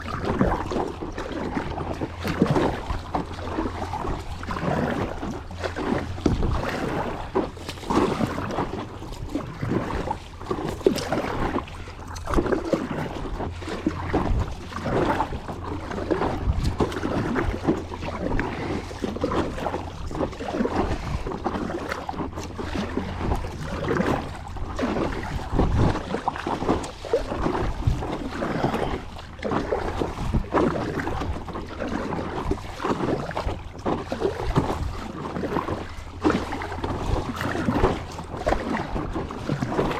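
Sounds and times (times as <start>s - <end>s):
paddle splashing through water: 0.0s - 39.9s
wind buffeting microphone: 0.0s - 39.9s.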